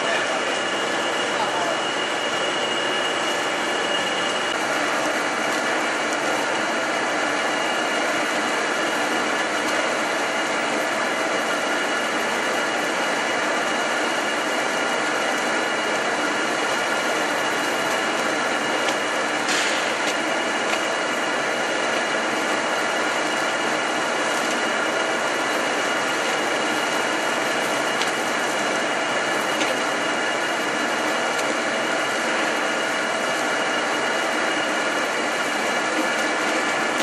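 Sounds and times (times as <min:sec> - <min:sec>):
machine mechanical whir: 0:00.0 - 0:37.0.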